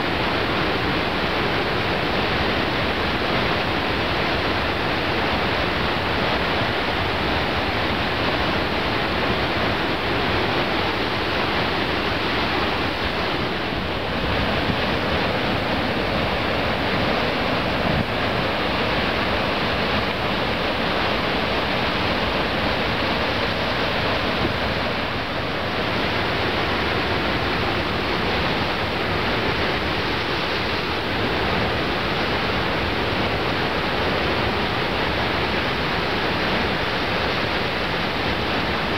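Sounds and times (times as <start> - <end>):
surf rushing along shore: 0.0 - 38.9.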